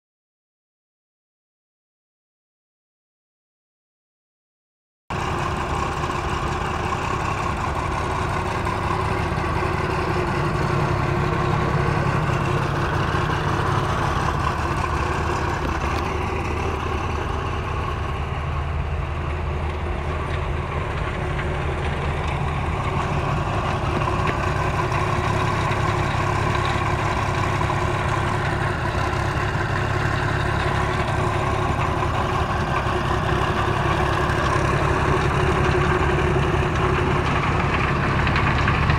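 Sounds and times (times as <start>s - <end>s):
grinder engine idling: 5.1s - 38.9s.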